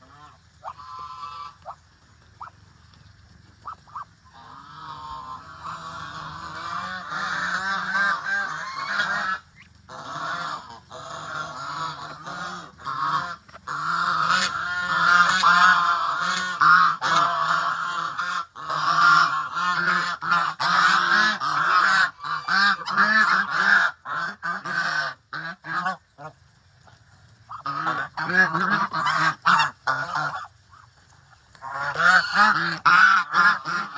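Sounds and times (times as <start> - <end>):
geese honking: 0.0 - 1.8, 3.6 - 26.3, 27.5 - 30.9, 31.6 - 33.9.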